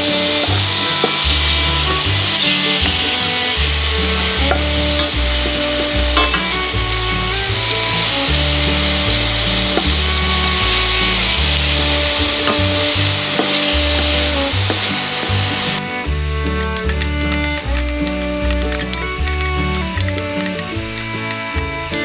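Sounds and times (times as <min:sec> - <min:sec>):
background music: 0:00.0 - 0:22.0
food sizzling in oil: 0:00.3 - 0:06.7, 0:07.8 - 0:22.0
wooden spatula scraping pan: 0:00.6 - 0:22.0.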